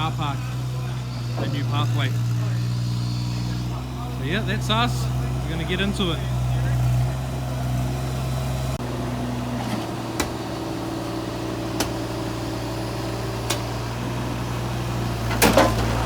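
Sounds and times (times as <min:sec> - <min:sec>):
machine engine running: 0:00.0 - 0:16.0.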